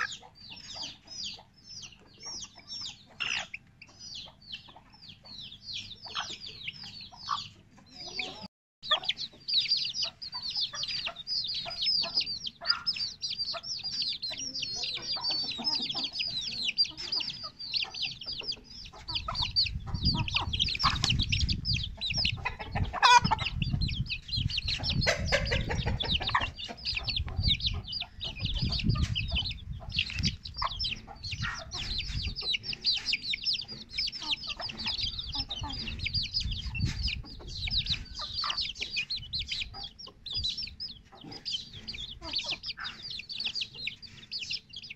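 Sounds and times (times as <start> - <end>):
chicks peeping: 0.0 - 44.9.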